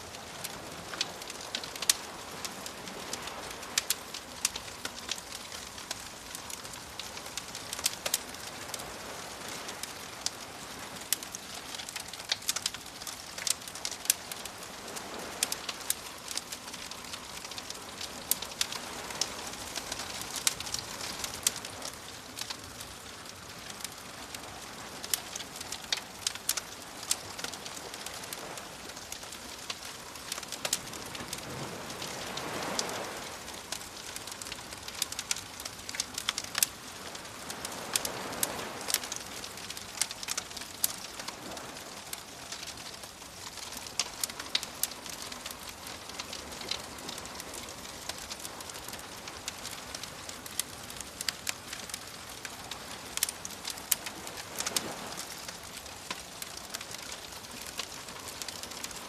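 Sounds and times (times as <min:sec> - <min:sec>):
sea waves: 0:00.0 - 0:59.0
wood fire crackling and popping: 0:00.0 - 0:59.0.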